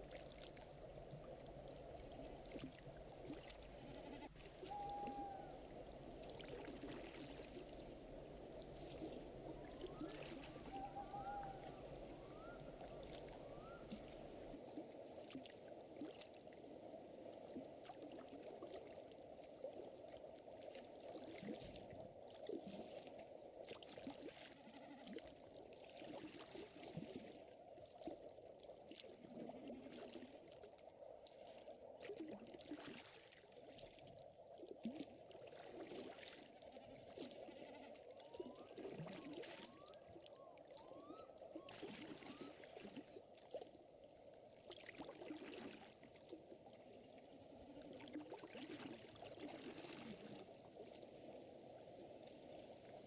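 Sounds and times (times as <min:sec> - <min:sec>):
low wash of water: 0:04.4 - 0:24.5, 0:25.1 - 0:53.0.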